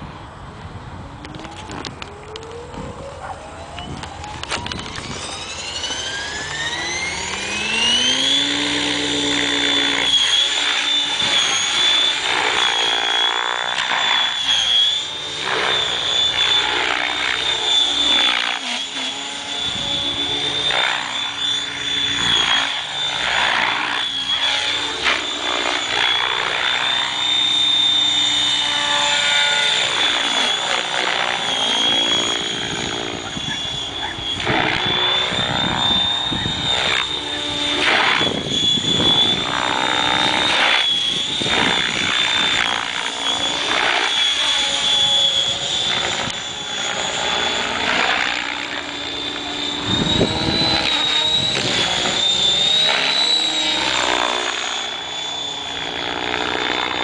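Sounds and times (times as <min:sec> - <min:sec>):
model helicopter whine: 0:00.0 - 0:57.0.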